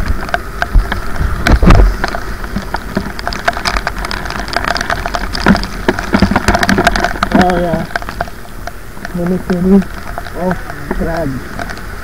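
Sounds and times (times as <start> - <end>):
heavy rain tapping on camera: 0.0 - 12.0
motorcycle low rumble: 0.0 - 12.0.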